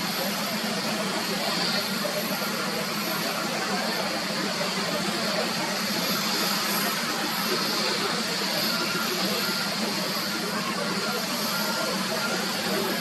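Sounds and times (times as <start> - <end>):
jet airliner engine rush: 0.0 - 13.0.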